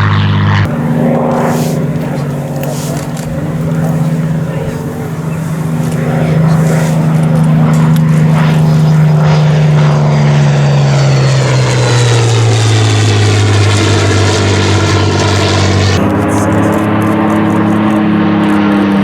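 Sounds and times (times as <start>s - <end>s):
piston aircraft engine flying past: 0.0s - 19.0s.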